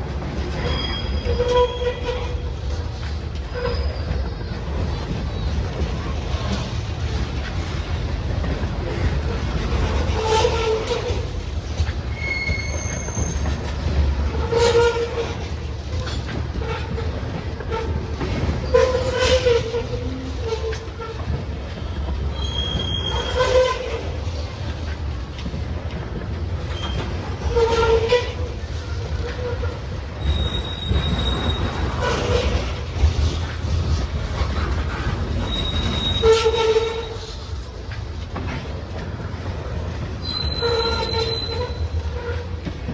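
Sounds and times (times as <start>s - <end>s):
train wheels rumbling on rail: 0.0s - 42.9s
wheel squeal with clatter: 0.2s - 42.9s.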